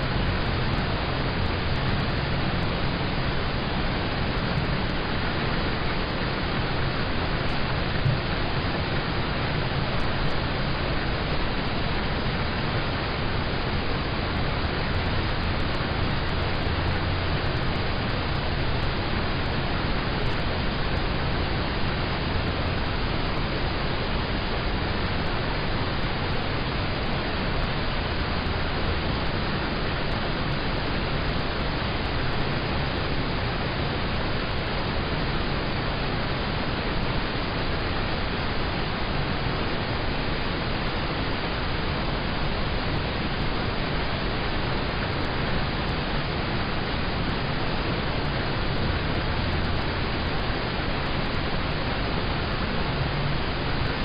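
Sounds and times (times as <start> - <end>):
rain on a car: 0.0 - 54.0.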